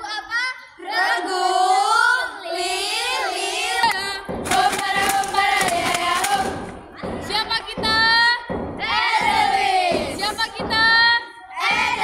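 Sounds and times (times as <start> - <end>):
children singing a cheer: 0.0 - 8.2, 8.8 - 12.0.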